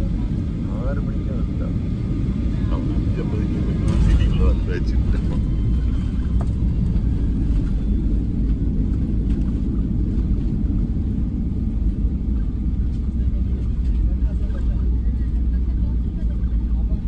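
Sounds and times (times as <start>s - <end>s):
airliner rumbling on runway: 0.0s - 17.0s.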